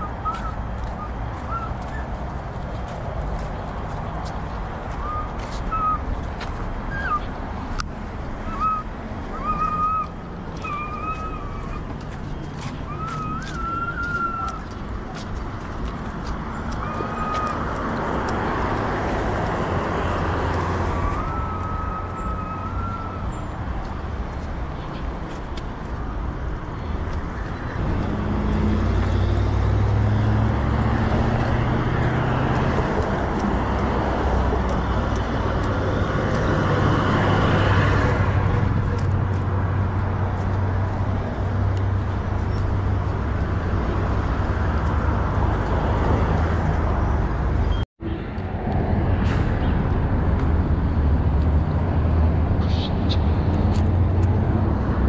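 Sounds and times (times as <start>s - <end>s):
traffic passing: 0.0s - 55.0s.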